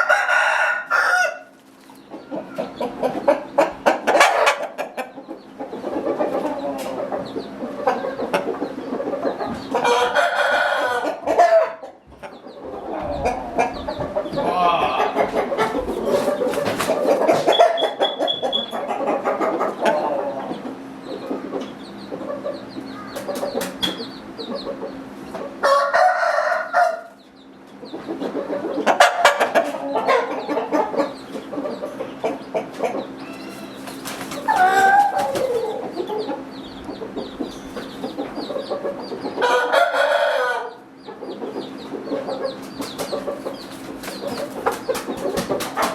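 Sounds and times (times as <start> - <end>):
roosters crowing: 0.0 - 21.5, 22.6 - 27.3, 28.0 - 45.9
chickens clucking: 0.0 - 45.9
steady low hum: 0.8 - 45.9.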